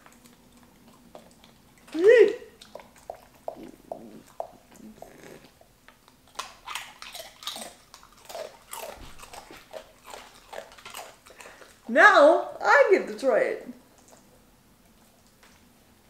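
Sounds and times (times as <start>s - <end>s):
dog chewing and licking: 0.0s - 11.9s, 13.8s - 15.8s.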